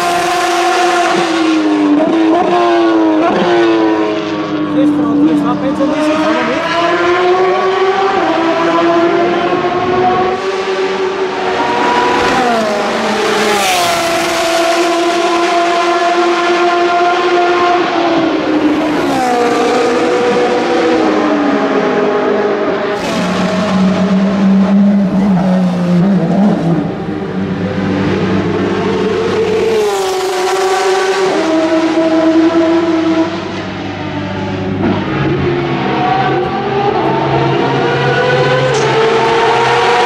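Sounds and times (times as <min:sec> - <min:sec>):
racing car engine revving: 0:00.0 - 0:40.0.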